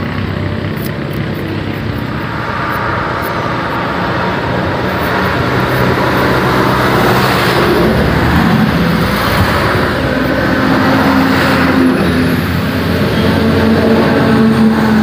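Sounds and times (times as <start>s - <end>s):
heavy vehicle engines humming: 0.0s - 15.0s.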